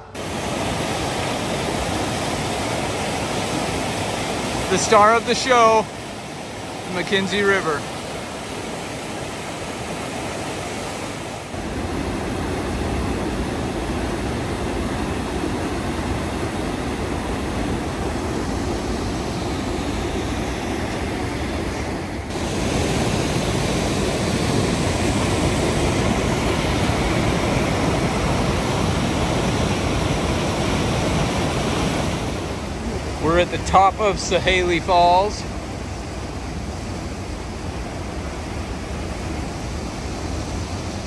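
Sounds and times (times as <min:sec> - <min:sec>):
white water rushing: 0:00.0 - 0:41.0.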